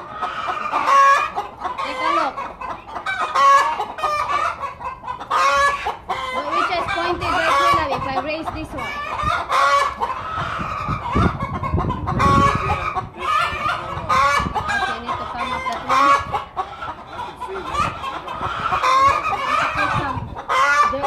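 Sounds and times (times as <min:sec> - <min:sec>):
chickens clucking and calling: 0:00.0 - 0:21.0.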